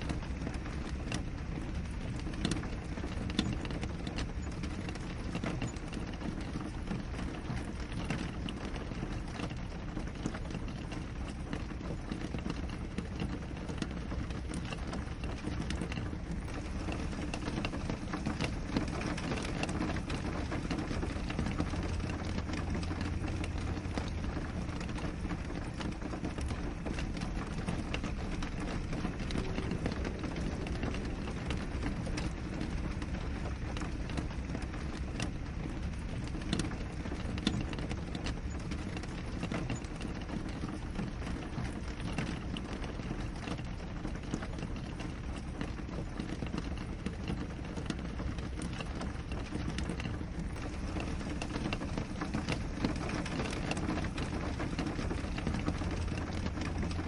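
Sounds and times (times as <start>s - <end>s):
rain on a window: 0.0s - 57.0s
raindrops ticking: 0.0s - 57.0s.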